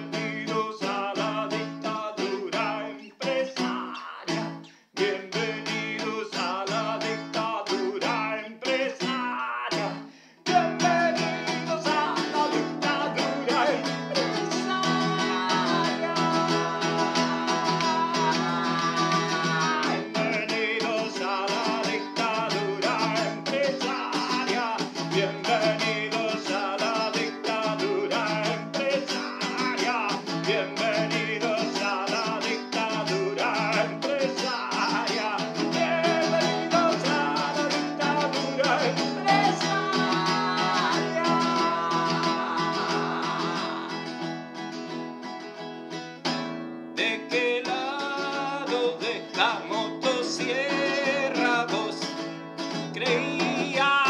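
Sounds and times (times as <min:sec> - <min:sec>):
guitar-led instrumental music: 0:00.0 - 0:08.4, 0:09.0 - 0:54.0.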